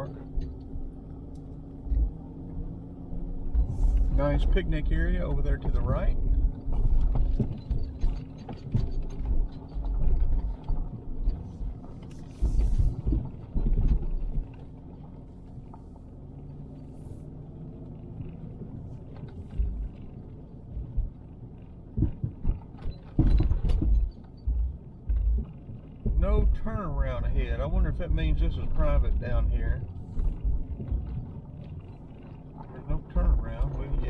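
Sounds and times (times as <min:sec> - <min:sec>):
car engine and road hum: 0:00.0 - 0:34.0
low thumps and rumble: 0:00.0 - 0:34.0.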